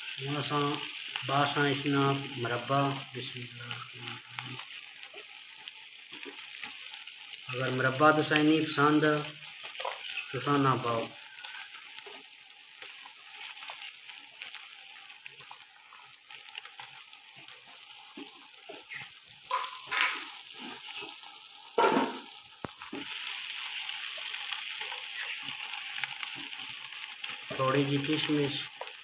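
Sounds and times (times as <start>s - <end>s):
rice sizzling in a pot: 0.0s - 29.0s.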